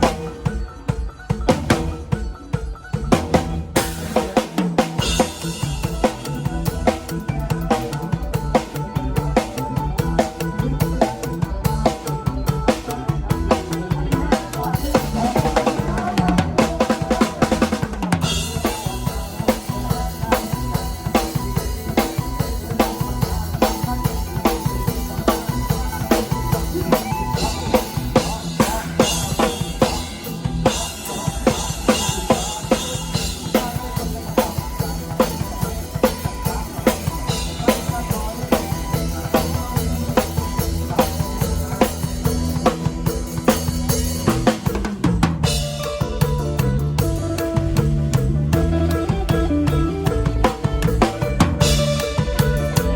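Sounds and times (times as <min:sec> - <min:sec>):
drum kit beat: 0:00.0 - 0:52.9
folk dance music: 0:00.0 - 0:52.9.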